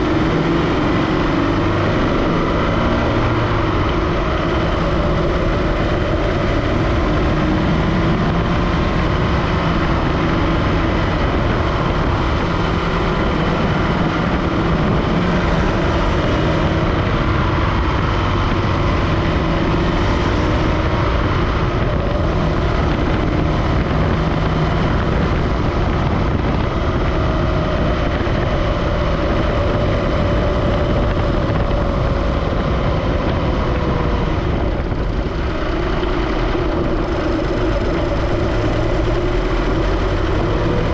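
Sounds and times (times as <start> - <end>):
car engine running: 0.0 - 40.9
held engine tones: 0.0 - 40.9.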